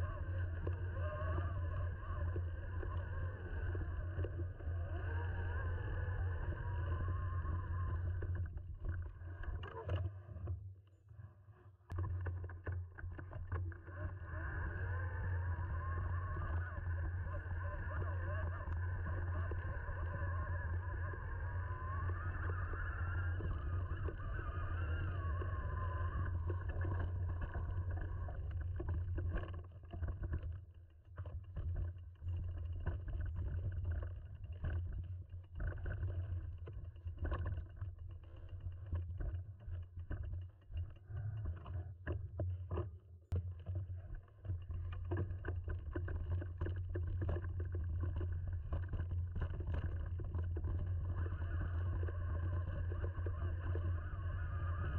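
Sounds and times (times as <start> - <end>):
rumble of moving bike: 0.0 - 10.8, 11.7 - 54.9.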